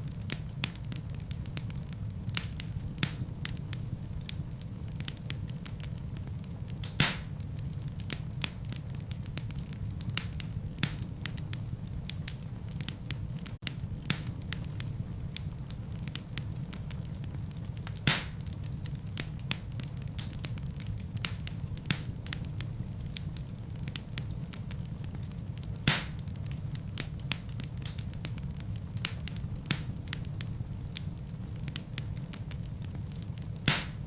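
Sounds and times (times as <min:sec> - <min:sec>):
fire crackling: 0:00.0 - 0:34.0
fire flames rumbling: 0:00.0 - 0:34.0
fire popping: 0:00.0 - 0:34.0.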